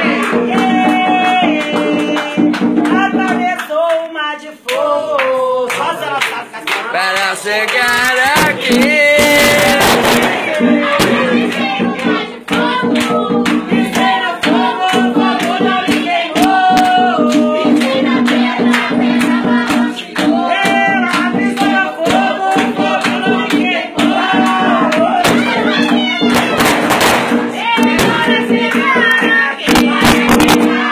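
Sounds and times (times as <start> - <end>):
drumming and percussion: 0.0 - 4.1, 4.7 - 30.9
group singing a chant: 0.0 - 30.9.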